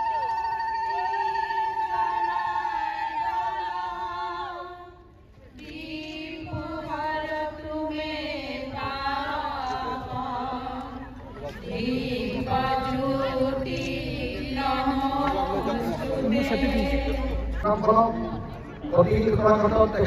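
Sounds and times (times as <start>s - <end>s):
group singing chant-like song: 0.3s - 5.0s, 5.6s - 17.7s.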